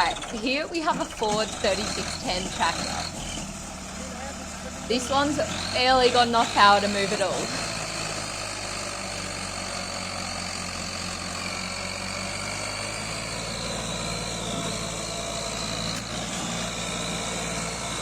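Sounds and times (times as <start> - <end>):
diesel tractor engine under load: 0.0 - 18.0.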